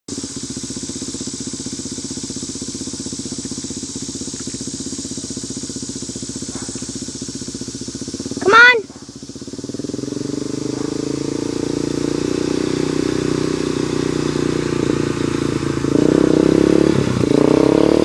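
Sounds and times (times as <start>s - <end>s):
motorbike engine idling: 0.1s - 18.0s.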